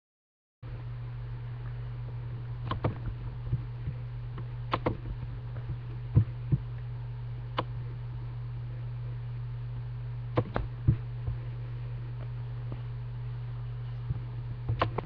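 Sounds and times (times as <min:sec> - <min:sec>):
low recording hum: 0:00.6 - 0:15.0.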